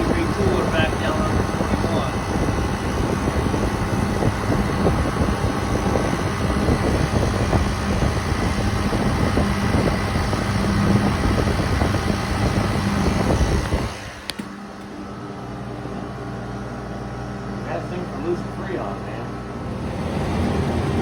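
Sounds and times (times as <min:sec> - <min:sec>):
compressor hum: 0:00.0 - 0:21.0
condenser fan rushing: 0:00.0 - 0:21.0.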